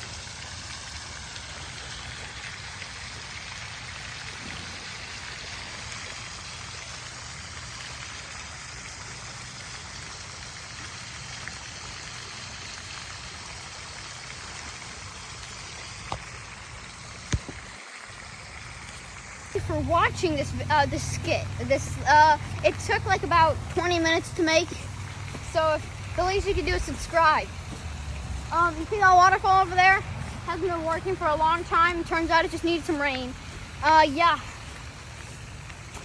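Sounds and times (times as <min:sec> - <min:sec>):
stream water flowing: 0:00.0 - 0:36.0.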